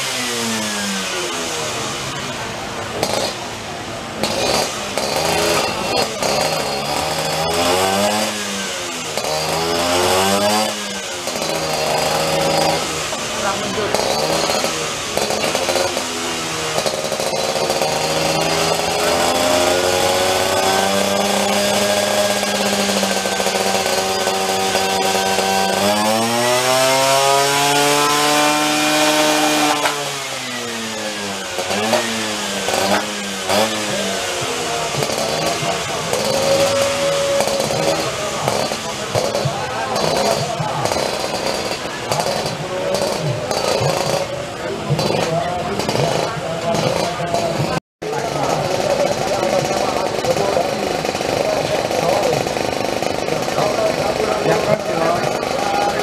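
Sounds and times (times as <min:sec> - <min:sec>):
scooter engine revving: 0:00.0 - 0:56.0.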